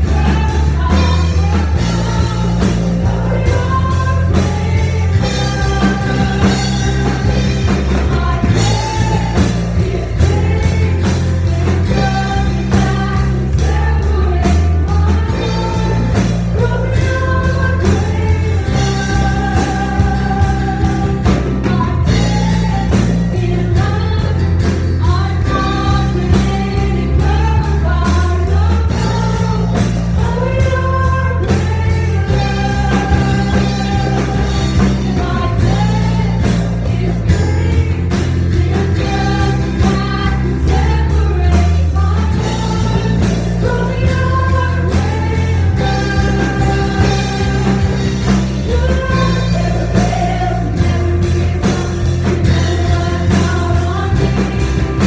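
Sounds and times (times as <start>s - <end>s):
band playing: 0.0s - 55.0s
strong bass: 0.0s - 55.0s
voices singing a melody: 0.0s - 55.0s.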